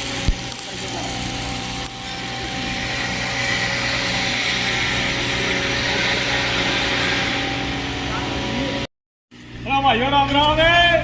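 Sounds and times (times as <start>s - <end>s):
motor humming: 0.0s - 8.9s.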